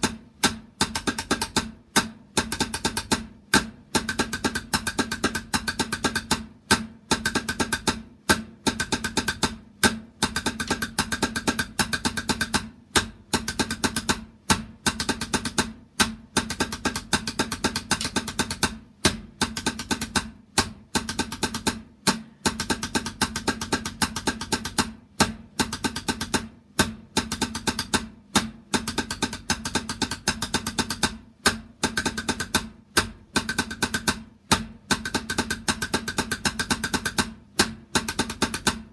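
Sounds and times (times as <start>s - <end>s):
fast drumming: 0.0s - 38.9s.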